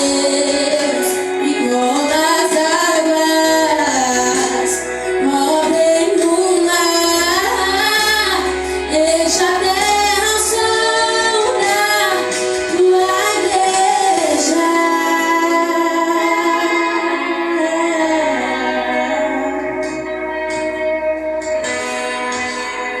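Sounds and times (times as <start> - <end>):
woman singing: 0.0 - 20.7
sustained keyboard accompaniment: 0.0 - 23.0.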